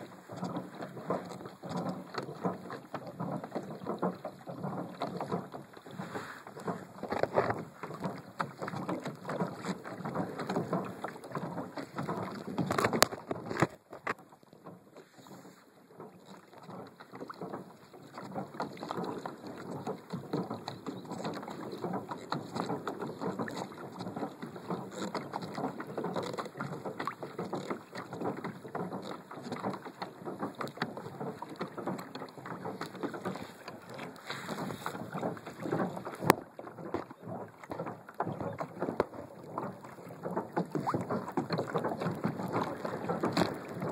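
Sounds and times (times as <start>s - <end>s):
water splashing against kayak: 0.0s - 43.9s.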